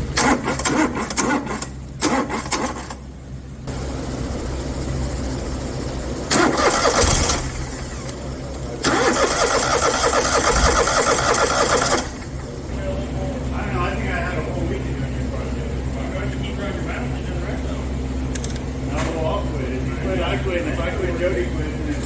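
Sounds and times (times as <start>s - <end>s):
engine turning over: 0.0s - 22.0s.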